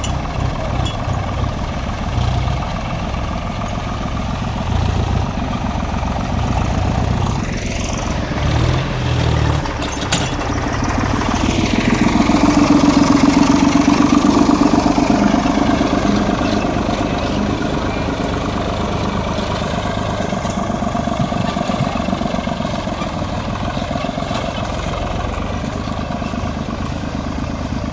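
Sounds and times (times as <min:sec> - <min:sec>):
tractor diesel engine revving: 0:00.0 - 0:27.9.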